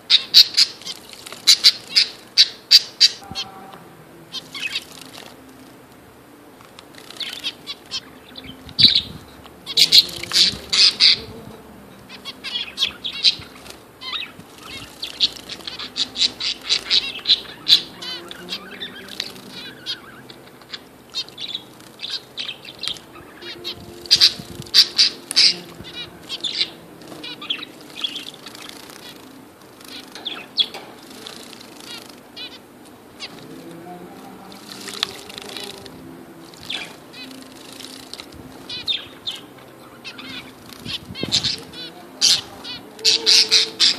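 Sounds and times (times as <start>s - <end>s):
finches chirping: 0.0s - 43.9s.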